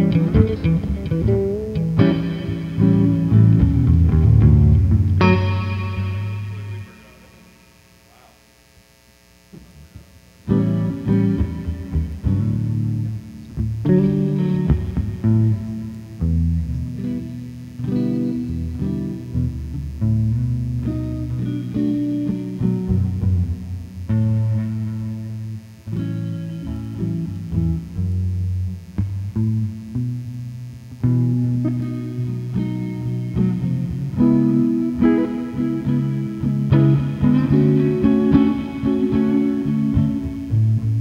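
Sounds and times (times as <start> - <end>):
plucked guitar music: 0.0 - 7.6, 10.4 - 41.0.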